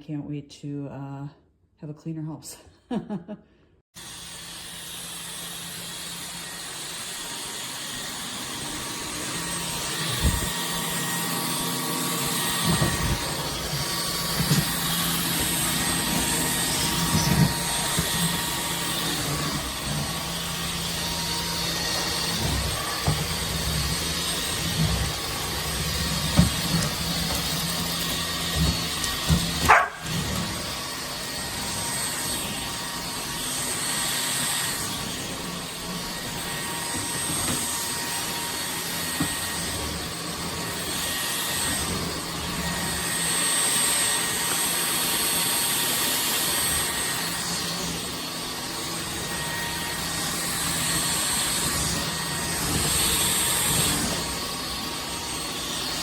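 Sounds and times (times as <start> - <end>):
stick vacuum whirring: 4.0 - 56.0.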